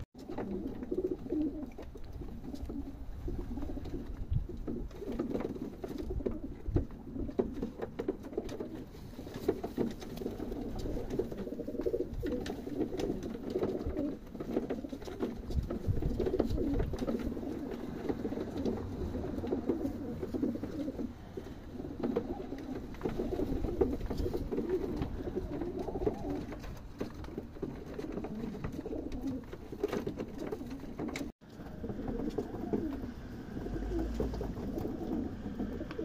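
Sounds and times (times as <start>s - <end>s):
pigeons cooing: 0.2s - 36.0s.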